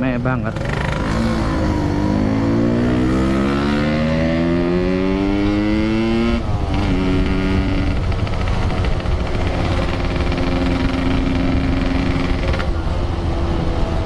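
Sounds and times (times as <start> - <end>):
motorcycle engine accelerating: 0.5 - 14.0.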